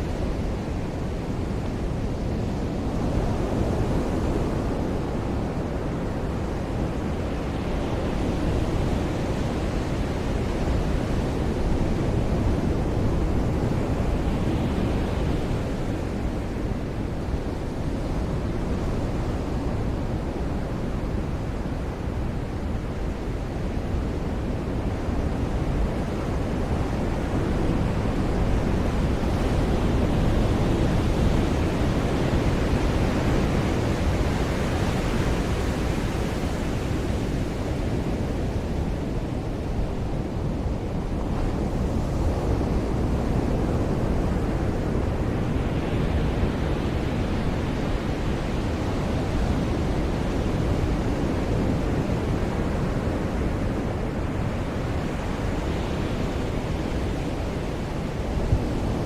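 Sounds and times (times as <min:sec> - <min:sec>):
waves washing on a beach: 0:00.0 - 0:59.0
wind on microphone: 0:00.0 - 0:59.0.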